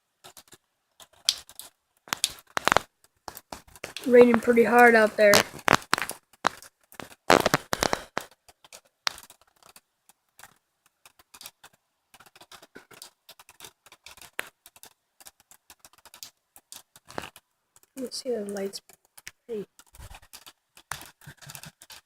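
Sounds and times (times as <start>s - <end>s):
raindrops pattering: 0.0s - 22.0s.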